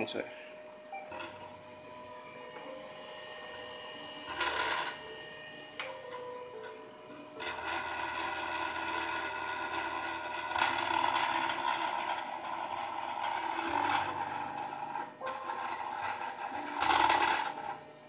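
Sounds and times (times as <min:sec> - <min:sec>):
power supply whine: 0:00.0 - 0:18.0.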